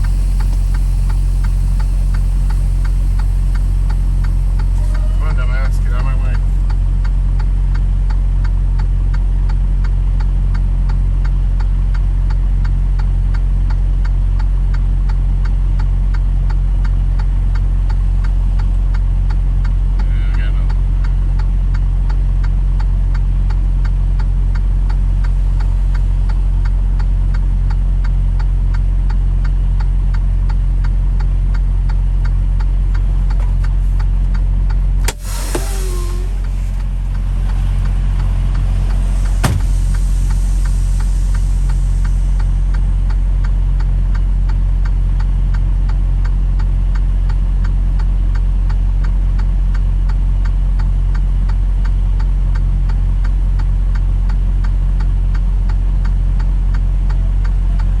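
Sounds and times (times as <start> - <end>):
vehicle engine running slowly: 0.0 - 58.0.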